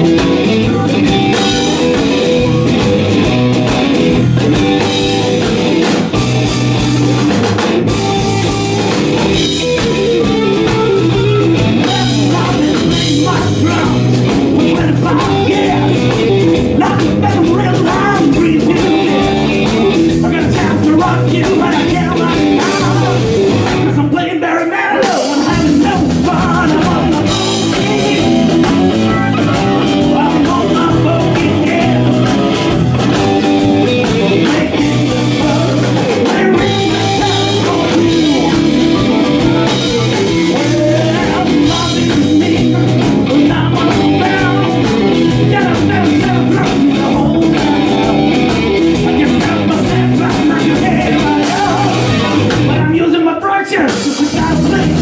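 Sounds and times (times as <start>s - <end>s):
bass guitar: 0.0s - 24.4s, 25.0s - 55.0s
drum kit: 0.0s - 55.0s
electric guitar: 0.0s - 55.0s.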